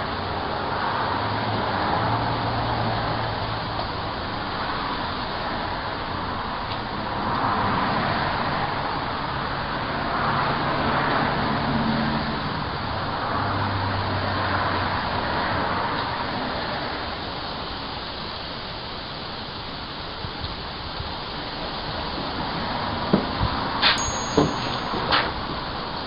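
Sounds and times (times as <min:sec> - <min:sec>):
steady traffic hiss: 0:00.0 - 0:24.0.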